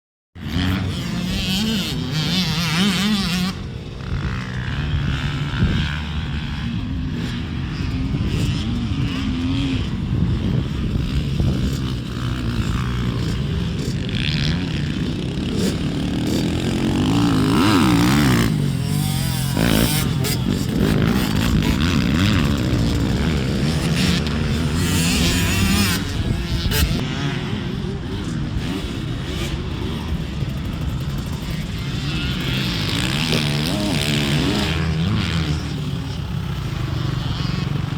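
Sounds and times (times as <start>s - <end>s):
motorcycle engine revving: 0.4s - 37.9s.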